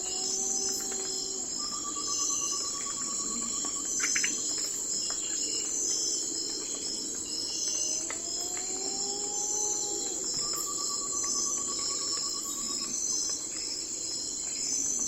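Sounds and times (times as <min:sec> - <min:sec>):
crickets and insects chorus: 0:00.0 - 0:15.0.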